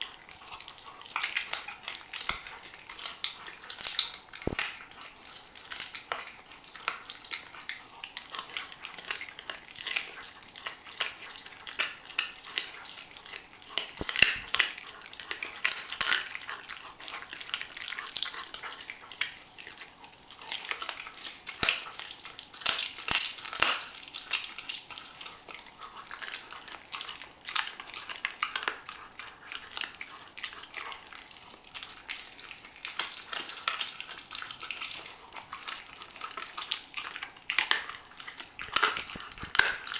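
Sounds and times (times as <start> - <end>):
puppy chewing bones: 0.0 - 39.9.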